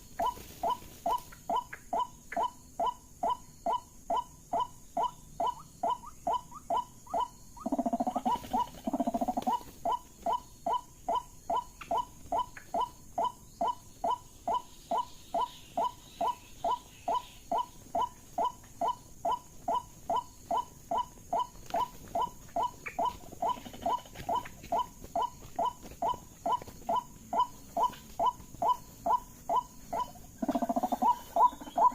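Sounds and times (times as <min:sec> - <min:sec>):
buzzy rattling bird calls: 0:00.0 - 0:31.9.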